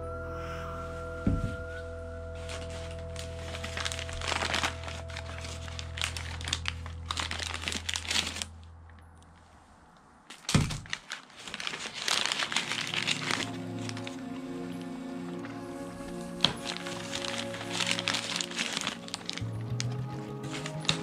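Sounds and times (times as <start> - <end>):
soft background music: 0.0 - 9.2, 11.9 - 21.0
paper snack bag crinkling: 2.4 - 8.6, 10.3 - 21.0
plastic wrappers crinkling: 2.4 - 9.0, 10.3 - 21.0.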